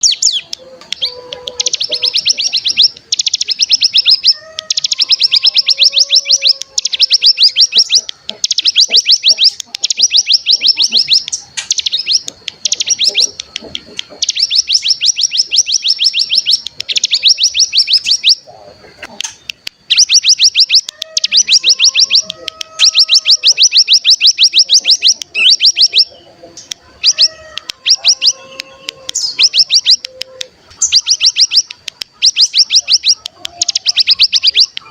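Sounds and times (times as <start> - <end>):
bird buzzing trill: 0.0 - 18.5, 19.2 - 34.9.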